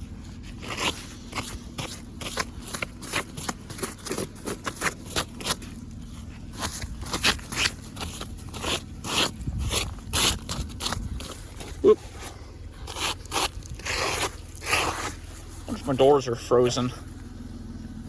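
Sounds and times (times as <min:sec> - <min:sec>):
car engine idling: 0:00.0 - 0:18.0
scraping ice-crusted snow off car: 0:00.4 - 0:16.1.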